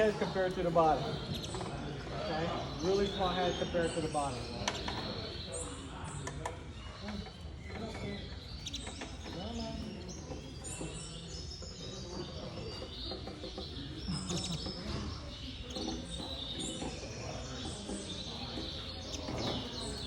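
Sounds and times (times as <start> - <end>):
canaries chirping and trilling: 0.0 - 20.0.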